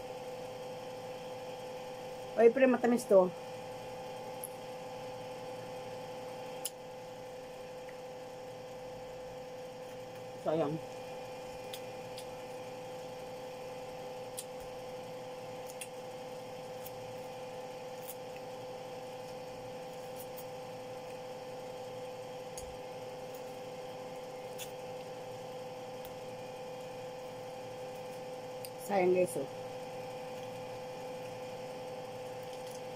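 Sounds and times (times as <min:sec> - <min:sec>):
steady hum: 0:00.0 - 0:32.9.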